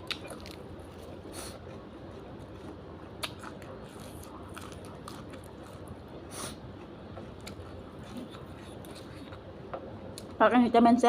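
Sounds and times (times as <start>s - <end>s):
person chewing food: 0.0s - 9.5s.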